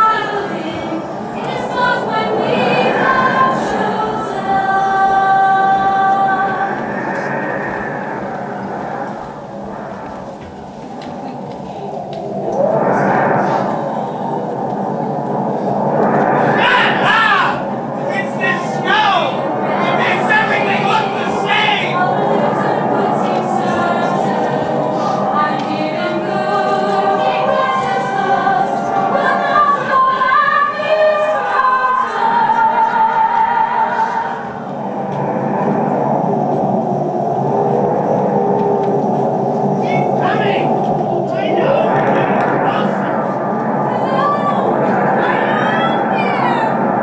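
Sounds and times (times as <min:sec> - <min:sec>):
voices singing in a hall: 0:00.0 - 0:47.0.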